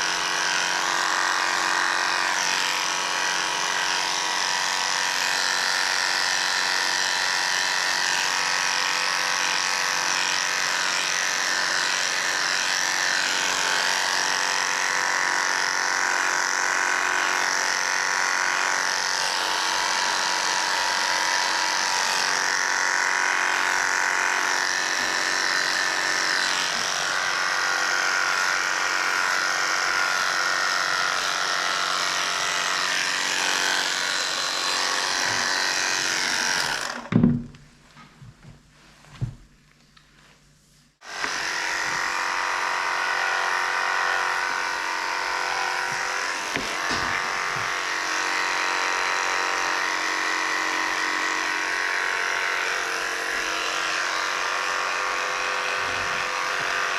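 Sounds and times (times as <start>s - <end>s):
electric clippers buzzing: 0.0s - 37.4s, 41.0s - 56.9s.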